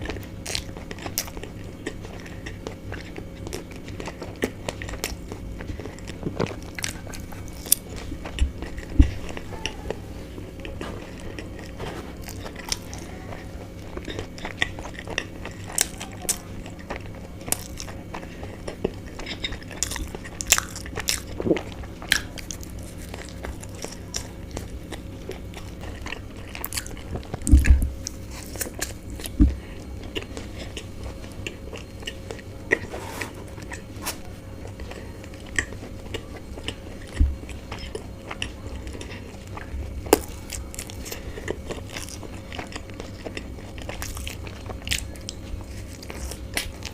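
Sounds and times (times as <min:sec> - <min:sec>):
biting and chewing: 0:00.0 - 0:46.9.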